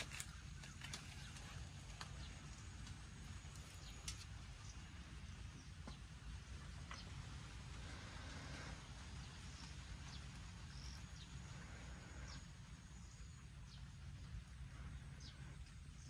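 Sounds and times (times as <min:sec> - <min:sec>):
low steady rumble: 0:00.0 - 0:16.0
small birds chirping: 0:00.0 - 0:16.0.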